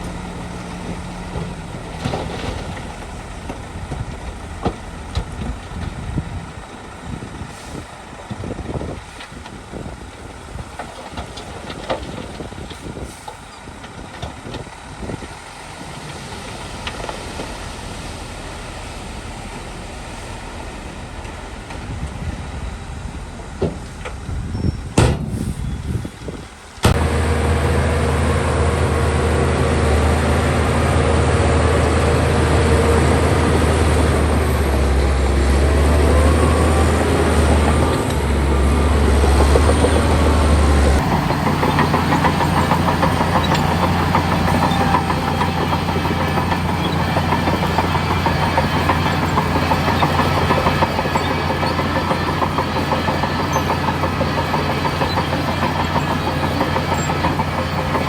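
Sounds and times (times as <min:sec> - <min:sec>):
diesel drone with fast clatter: 0:00.0 - 0:58.0
heavy diesel machinery engines: 0:00.0 - 0:58.0.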